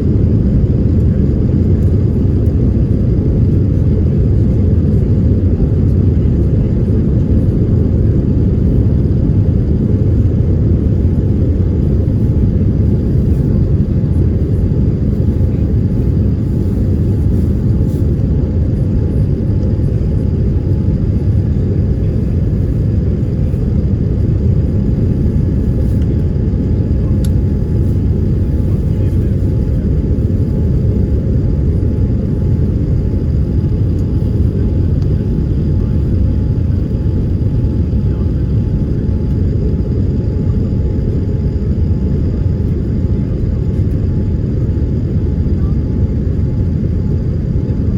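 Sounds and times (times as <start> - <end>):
airliner cabin engine rumble: 0.0 - 47.9.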